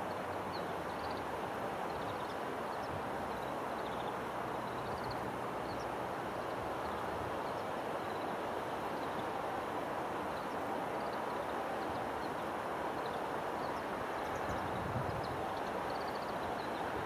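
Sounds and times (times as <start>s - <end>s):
birds chirping and twittering: 0.1s - 9.4s, 10.3s - 17.0s.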